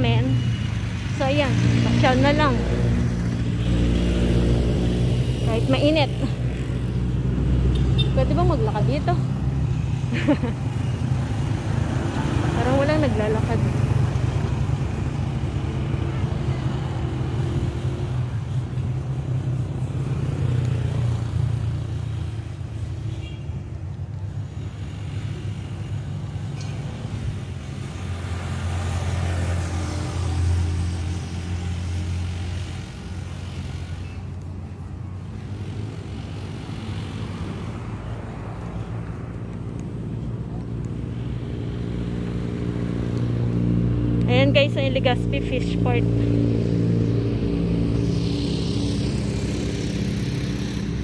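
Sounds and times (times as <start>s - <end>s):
vehicle passing: 0.0s - 22.8s, 24.3s - 51.0s
road traffic rumble: 0.0s - 51.0s.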